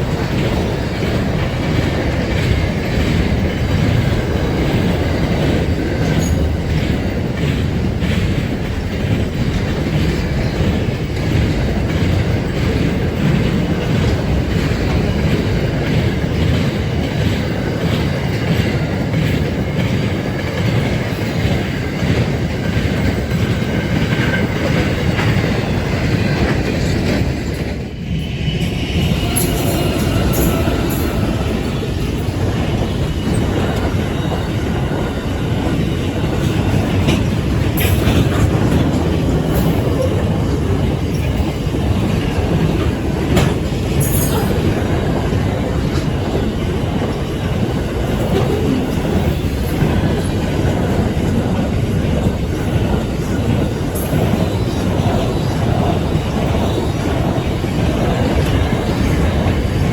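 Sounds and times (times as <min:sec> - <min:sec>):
clicking over rail joints: 0:00.0 - 0:59.9
rumble of wheels on rail: 0:00.0 - 0:59.9.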